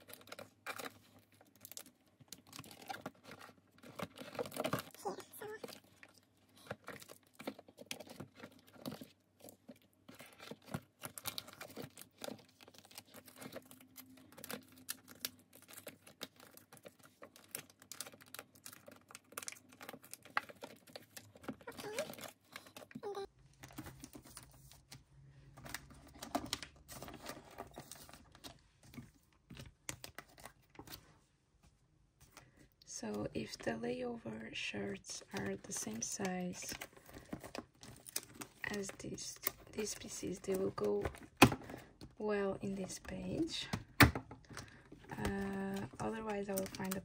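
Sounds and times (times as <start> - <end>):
plastic binder sleeves crinkling: 0.0 - 31.2, 35.0 - 47.0.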